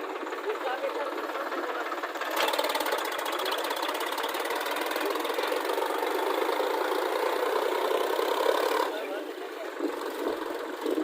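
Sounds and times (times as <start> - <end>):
diesel engine revving high: 1.5 - 11.0.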